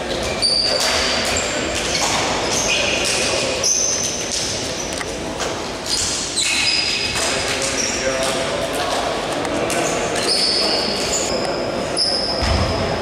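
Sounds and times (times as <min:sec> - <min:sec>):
sneakers squeaking on court floor: 0:00.0 - 0:05.0, 0:05.8 - 0:08.1, 0:09.8 - 0:12.9
murmur of players' voices: 0:00.0 - 0:13.0.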